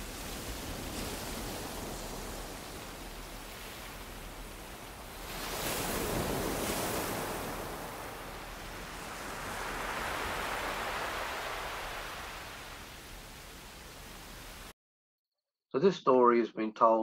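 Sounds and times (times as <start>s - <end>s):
ocean waves washing in: 0.0s - 14.7s.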